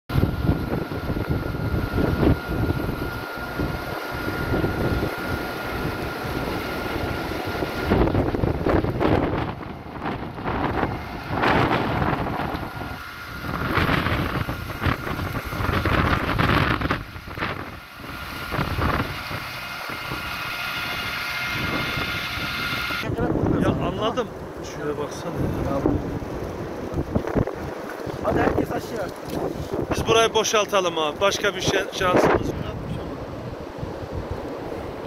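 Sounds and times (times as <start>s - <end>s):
wind buffeting microphone: 0.1s - 35.0s.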